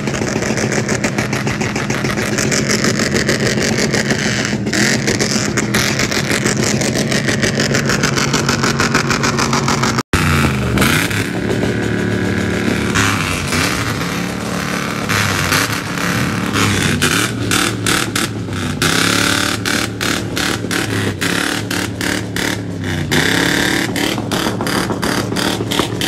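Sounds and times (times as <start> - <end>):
engine bouncing off rev limiter: 0.0 - 26.0.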